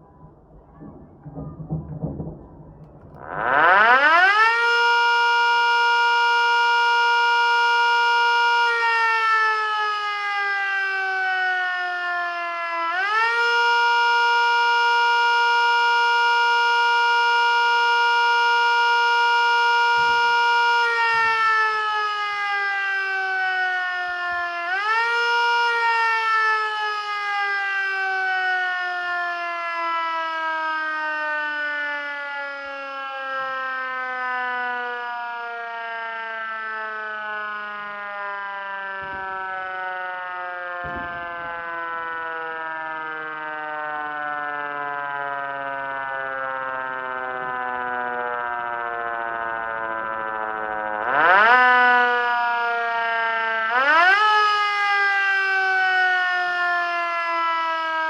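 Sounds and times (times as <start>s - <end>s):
siren wailing: 0.0s - 58.0s.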